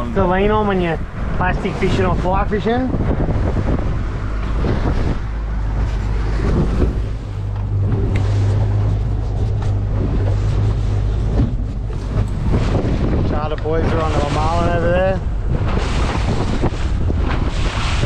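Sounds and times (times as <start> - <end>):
boat motor running: 0.0 - 18.0
wind buffeting microphone: 0.0 - 18.0.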